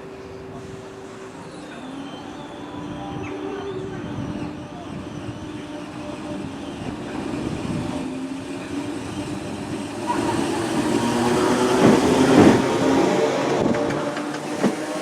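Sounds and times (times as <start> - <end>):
electric train motors humming and whining: 0.0 - 15.0.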